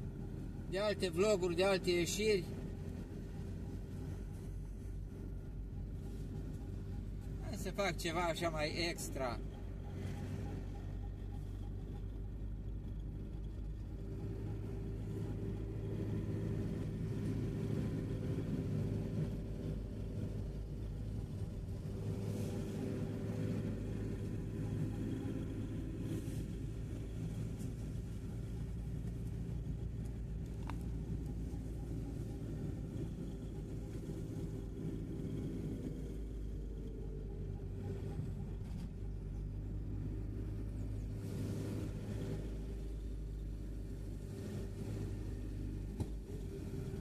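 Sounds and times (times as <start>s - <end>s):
tyre road rumble: 0.0s - 47.0s
van engine hum: 0.0s - 47.0s.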